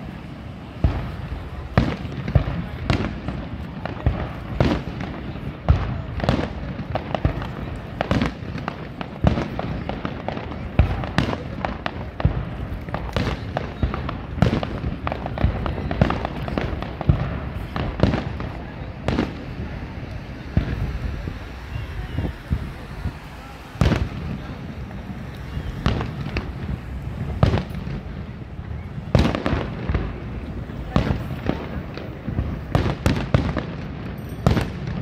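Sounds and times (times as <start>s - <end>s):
fireworks bursting with echo: 0.0s - 35.0s.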